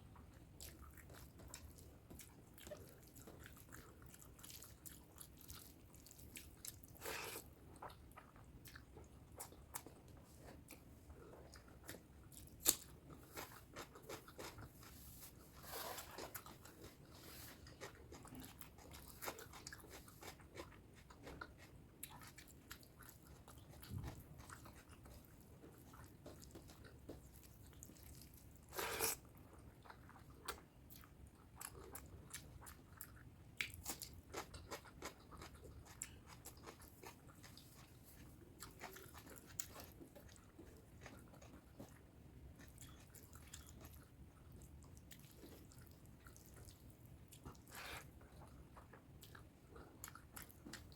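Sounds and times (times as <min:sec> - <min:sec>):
person chewing food: 0:00.1 - 0:50.9.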